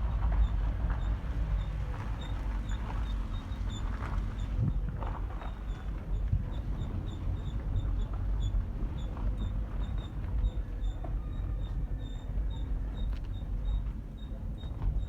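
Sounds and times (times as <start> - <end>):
low rumble of car moving: 0.0 - 15.0.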